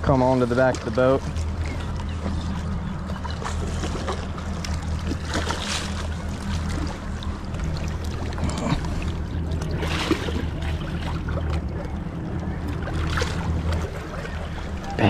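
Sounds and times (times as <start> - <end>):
boat engine idling: 0.0 - 15.0
water noise: 0.0 - 15.0.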